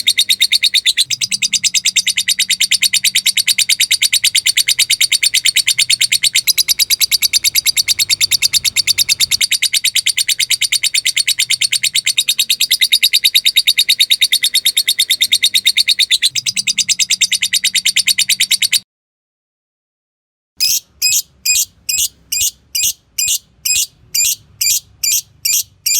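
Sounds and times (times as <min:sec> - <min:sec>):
lovebird chattering: 0:00.0 - 0:18.8, 0:20.6 - 0:25.9.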